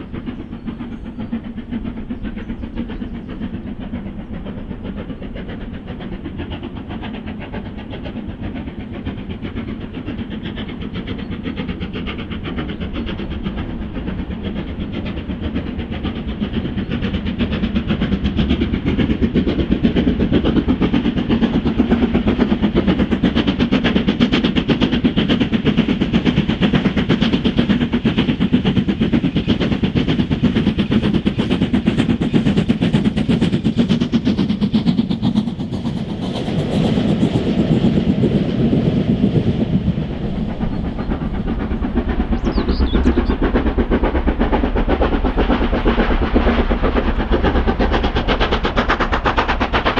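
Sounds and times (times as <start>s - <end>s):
steam locomotive exhaust beats: 0.0s - 49.9s
train rumble: 0.0s - 49.9s.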